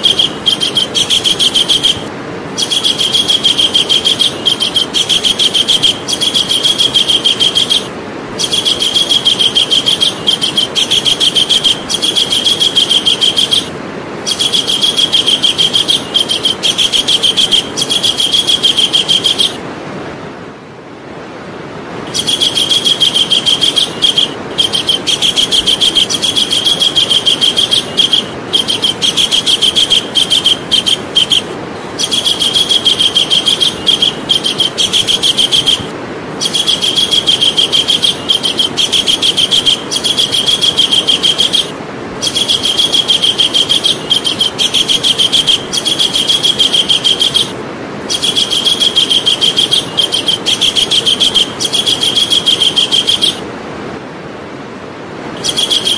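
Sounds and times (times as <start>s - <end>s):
kingfisher chattering trill: 0.0s - 19.6s, 22.1s - 53.4s, 55.4s - 55.9s
steady low hiss: 0.0s - 55.9s.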